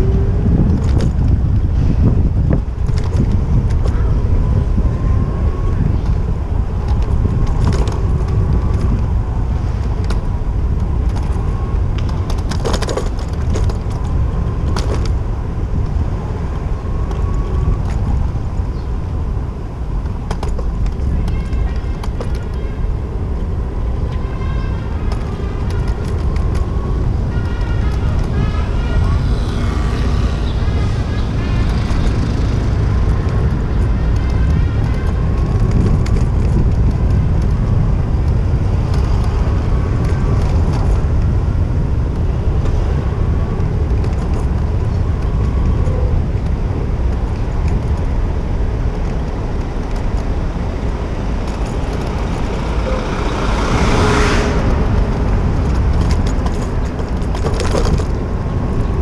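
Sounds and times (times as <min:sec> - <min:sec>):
city street traffic: 0:00.0 - 0:59.0
wind rumble on microphone: 0:00.0 - 0:59.0.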